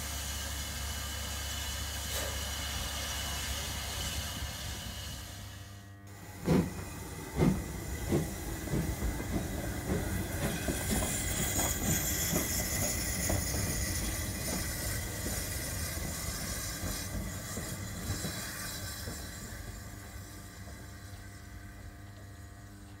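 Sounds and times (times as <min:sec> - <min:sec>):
model steam locomotive chuffing: 0:00.0 - 0:21.9.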